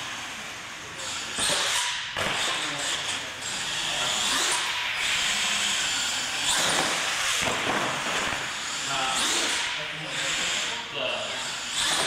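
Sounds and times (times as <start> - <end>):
rc truck motor whine: 0.0 - 12.0.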